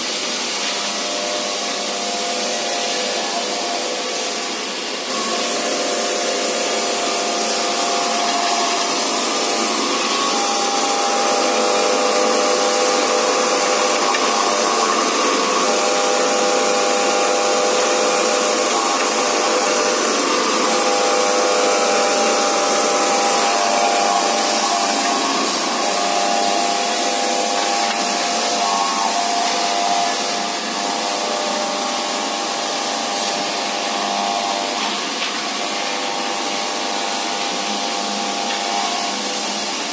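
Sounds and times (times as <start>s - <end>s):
woodworking machines whirring: 0.0s - 39.9s.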